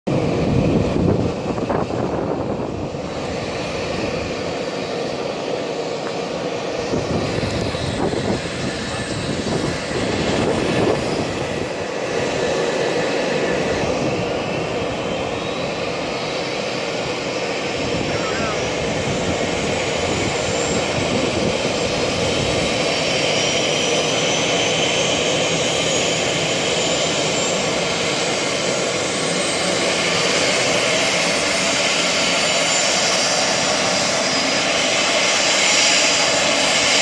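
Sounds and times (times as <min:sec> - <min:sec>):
jet engine rumble: 0:00.1 - 0:37.0
jet engine spooling whine: 0:00.1 - 0:37.0.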